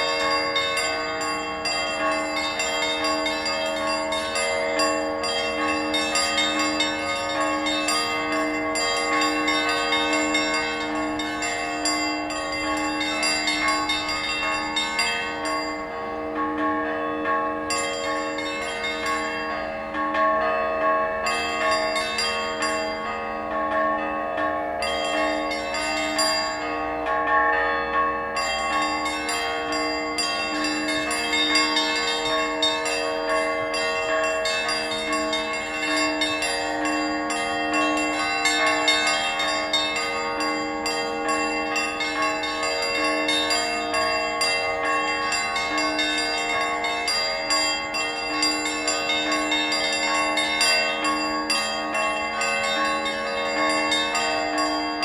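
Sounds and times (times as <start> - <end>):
church bells ringing: 0.0 - 55.0.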